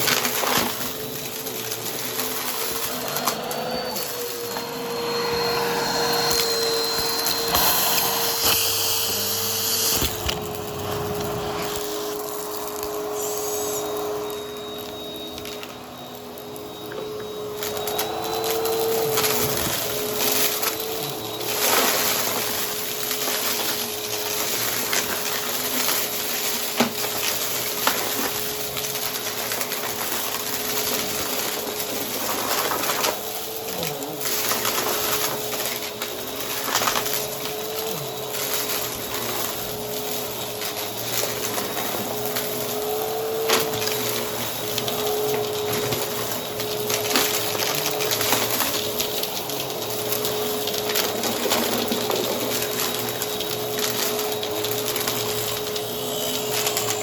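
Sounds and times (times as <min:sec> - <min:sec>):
vacuum cleaner motor hum: 0:00.0 - 0:57.0.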